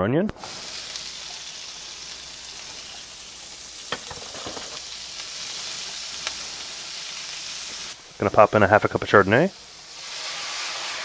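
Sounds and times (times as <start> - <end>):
onion sizzling in a skillet: 0.4 - 11.0.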